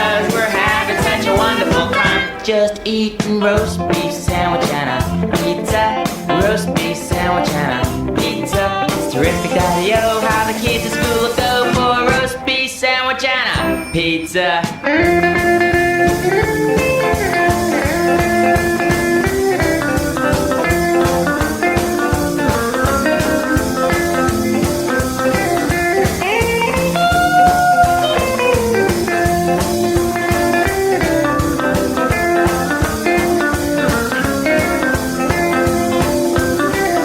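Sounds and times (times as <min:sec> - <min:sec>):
steady drum beat: 0:00.0 - 0:02.5, 0:03.2 - 0:12.6, 0:13.6 - 0:37.0
electric guitar lead: 0:00.0 - 0:37.0.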